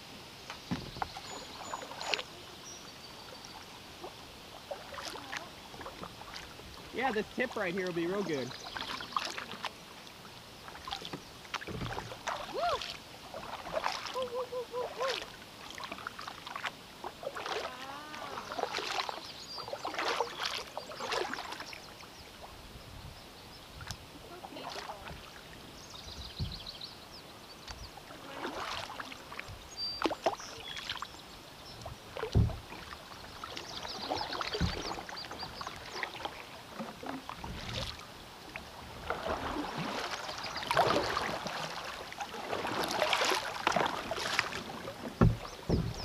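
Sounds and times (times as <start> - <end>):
kayak paddle splashing: 0.4 - 22.8, 23.4 - 46.0.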